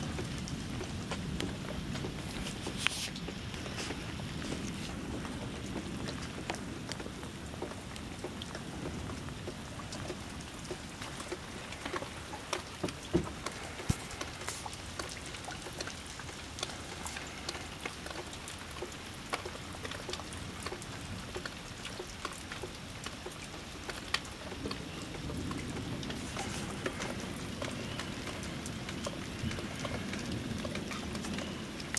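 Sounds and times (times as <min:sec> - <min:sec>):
rain falling: 0:00.0 - 0:31.9
raindrops ticking close by: 0:00.0 - 0:31.9.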